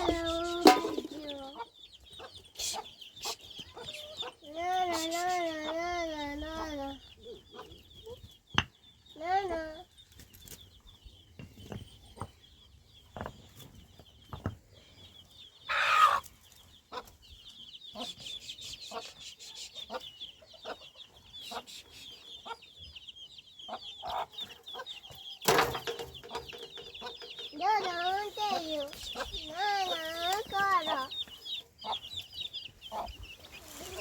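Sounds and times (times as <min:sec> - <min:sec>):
chickens clucking: 0:00.0 - 0:34.0
chicks peeping: 0:00.0 - 0:34.0.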